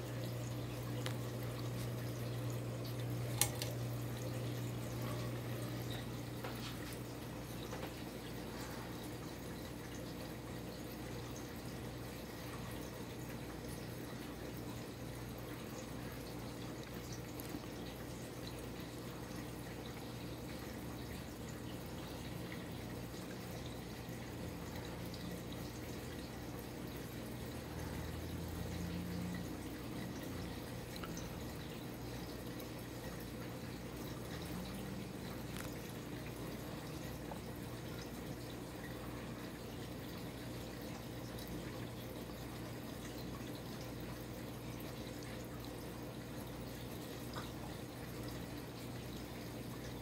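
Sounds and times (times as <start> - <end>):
ceiling fan motor hum: 0.0 - 50.0.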